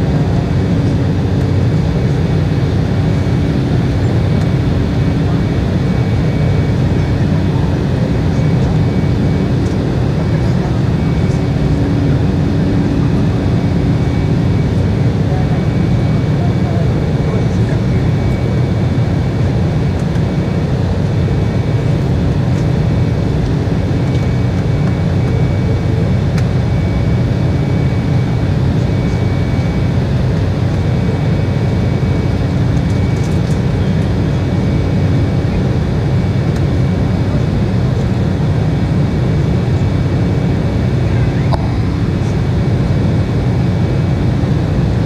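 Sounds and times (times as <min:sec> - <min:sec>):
airplane cabin drone: 0:00.0 - 0:45.0
faint high whine: 0:00.0 - 0:45.0.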